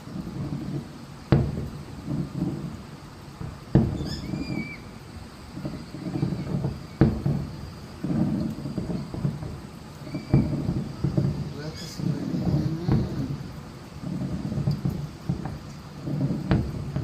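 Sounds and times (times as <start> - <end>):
firework shells booming: 0.0 - 17.0
low rumble and crackle: 0.0 - 17.0.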